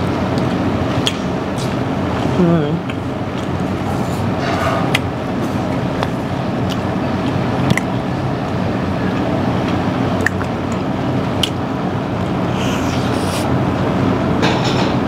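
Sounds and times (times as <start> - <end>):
crackly chewing of bread: 0.0 - 4.3, 4.9 - 13.6
restaurant room rumble: 0.0 - 15.0.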